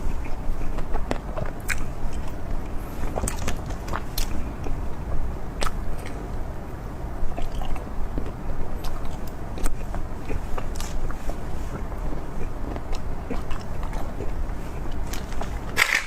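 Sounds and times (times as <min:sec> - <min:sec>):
person chewing food: 0:00.0 - 0:06.3, 0:07.2 - 0:16.0.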